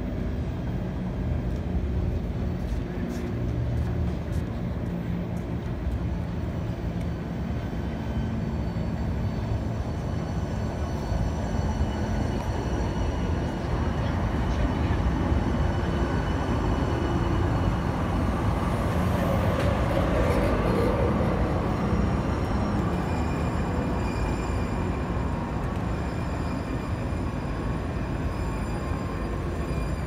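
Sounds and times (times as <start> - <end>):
steel wheels rumbling on rails: 0.0 - 30.0.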